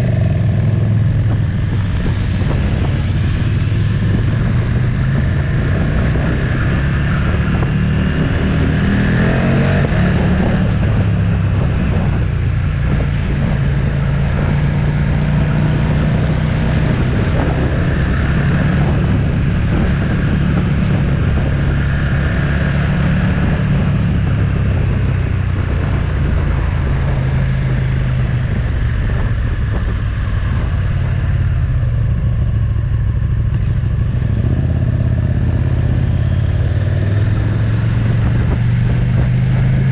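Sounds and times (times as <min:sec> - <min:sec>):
motorcycle engine running: 0:00.0 - 0:39.9
road rush: 0:00.0 - 0:39.9
wind: 0:00.0 - 0:39.9.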